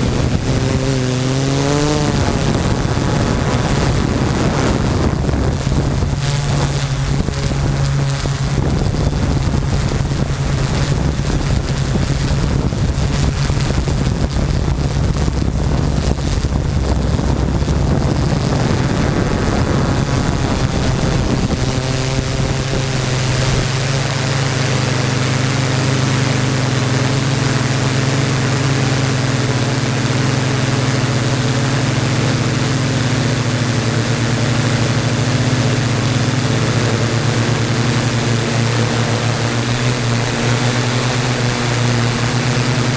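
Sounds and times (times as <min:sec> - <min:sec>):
drone propellers humming: 0:00.0 - 0:42.9
wind noise on microphone: 0:00.0 - 0:42.9.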